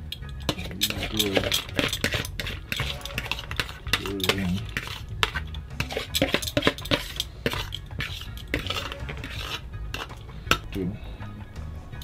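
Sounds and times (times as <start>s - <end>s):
utensil clinking against pot: 0.0s - 10.8s.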